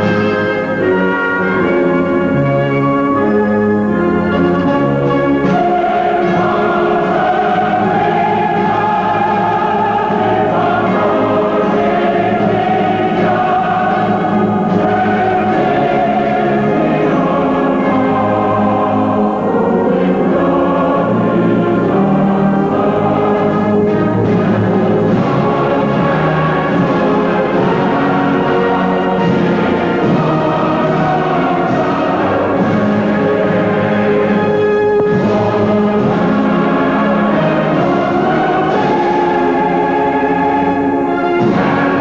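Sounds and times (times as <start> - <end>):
choir singing long held notes: 0.0 - 42.0
orchestral accompaniment: 0.0 - 42.0.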